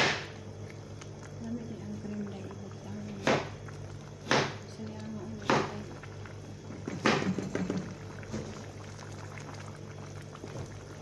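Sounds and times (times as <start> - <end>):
steady low hum: 0.0 - 11.0
stew bubbling in a pan: 0.0 - 11.0.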